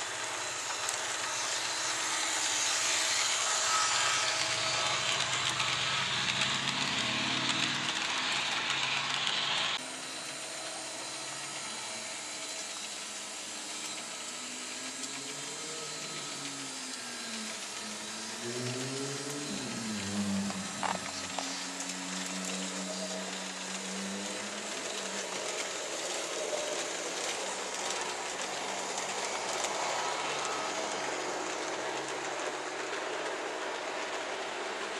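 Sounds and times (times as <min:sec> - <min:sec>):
model train rolling with motor whine: 0:00.0 - 0:34.9.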